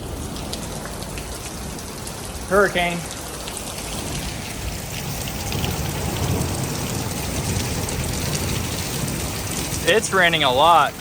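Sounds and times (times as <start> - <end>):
heavy rain drumming on roof: 0.0 - 11.0.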